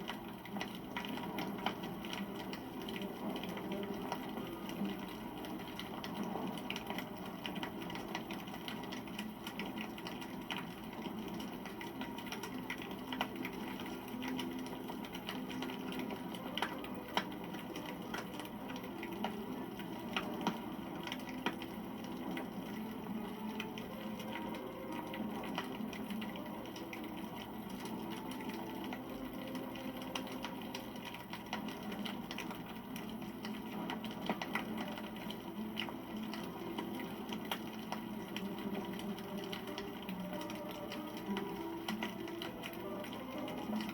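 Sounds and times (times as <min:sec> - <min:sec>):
campfire flames rushing: 0:00.0 - 0:43.9
fire crackling and popping: 0:00.0 - 0:43.9.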